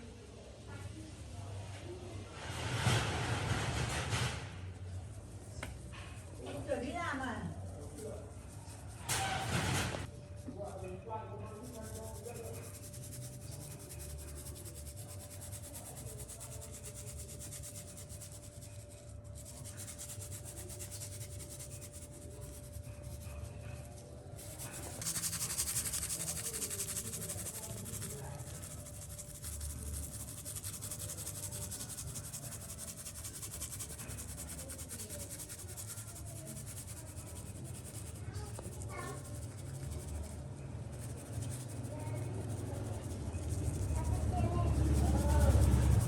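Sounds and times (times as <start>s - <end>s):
hand rubbing a surface: 2.4s - 46.0s.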